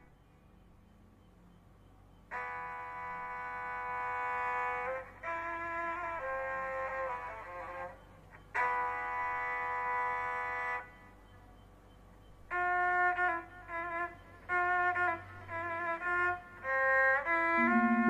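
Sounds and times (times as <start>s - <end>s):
slow unaccompanied melody: 2.0s - 18.0s.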